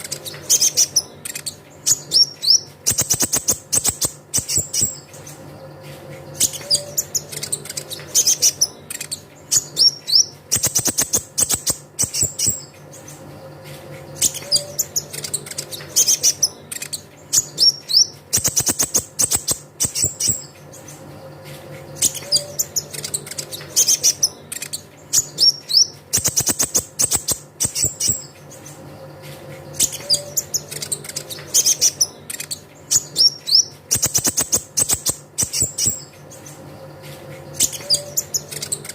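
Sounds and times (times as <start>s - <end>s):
bird chirping trills: 0.0s - 38.9s.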